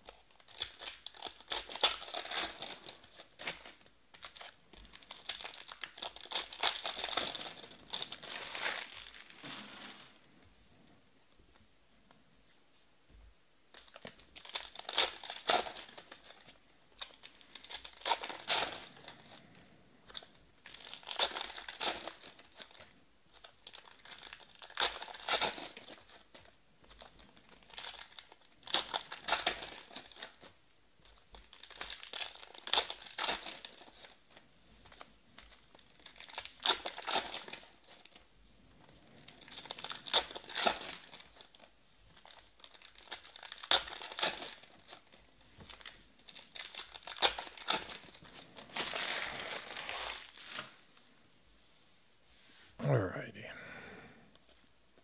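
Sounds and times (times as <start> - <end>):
foil wrappers tearing and crinkling: 0.0 - 10.1, 13.7 - 19.5, 20.1 - 30.5, 31.1 - 34.2, 34.9 - 38.2, 39.0 - 50.8.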